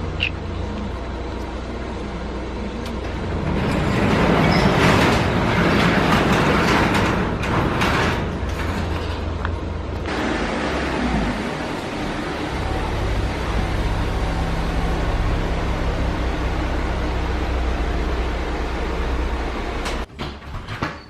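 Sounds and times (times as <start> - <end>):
car road and engine rumble: 0.0 - 20.1.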